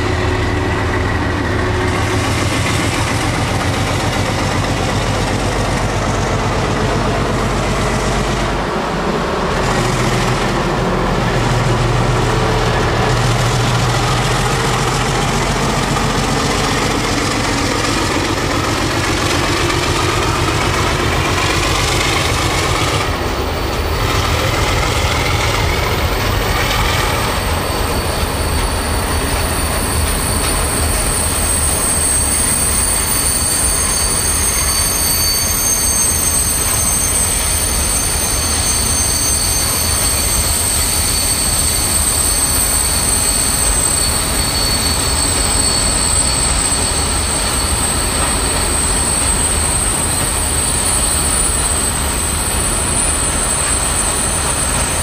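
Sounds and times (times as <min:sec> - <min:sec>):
freight train rolling: 0:00.0 - 0:55.0
locomotive engine drone: 0:00.0 - 0:55.0
wheel squeal on rails: 0:00.0 - 0:55.0.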